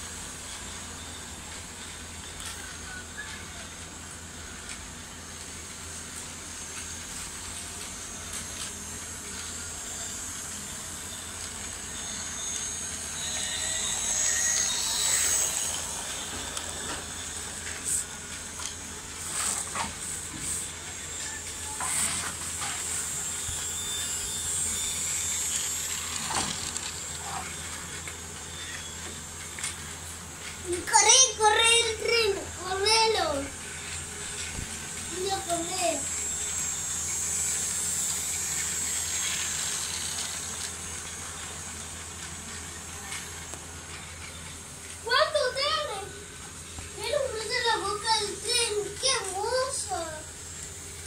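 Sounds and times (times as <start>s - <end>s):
toy train motor whine: 0.0s - 51.0s.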